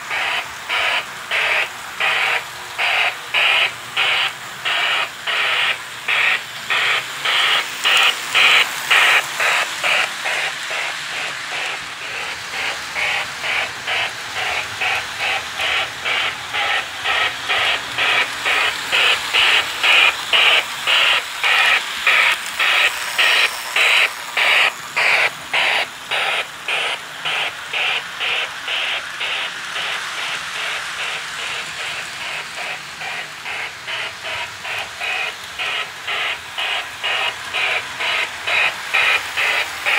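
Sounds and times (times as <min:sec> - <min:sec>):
model train steam chuffing: 0:00.0 - 0:39.9.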